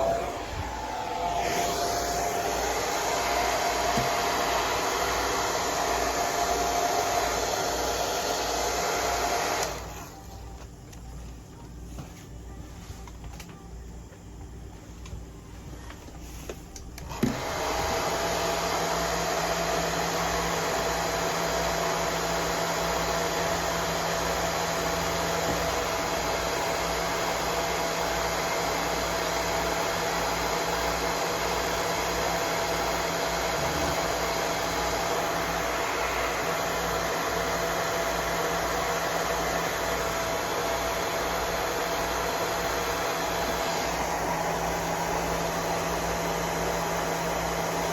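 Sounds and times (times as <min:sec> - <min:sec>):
hair dryer whirring: 0:00.0 - 0:10.4, 0:17.0 - 0:47.9.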